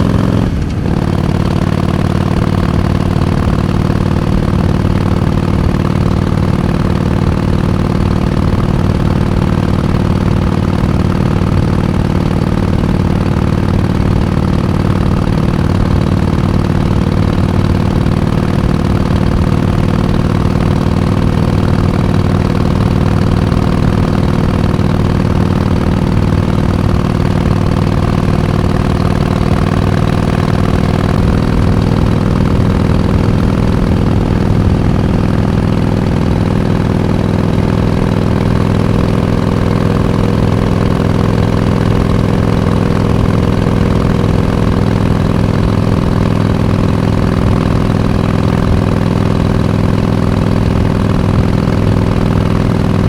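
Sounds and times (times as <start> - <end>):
motorcycle engine idling: 0.0 - 53.0.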